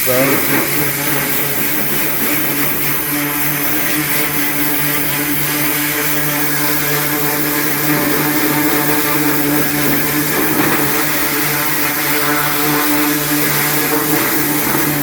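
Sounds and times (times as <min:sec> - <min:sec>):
hiss of water spray: 0:00.0 - 0:15.0
pressure washer motor humming: 0:00.0 - 0:15.0.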